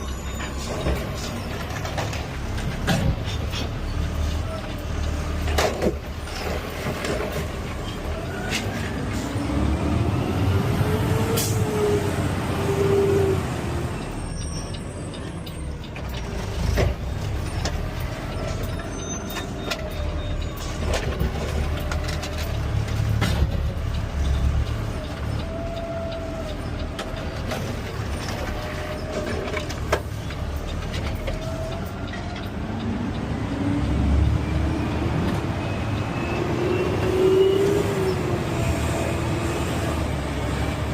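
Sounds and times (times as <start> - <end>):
garbage truck engine: 0.0 - 40.9.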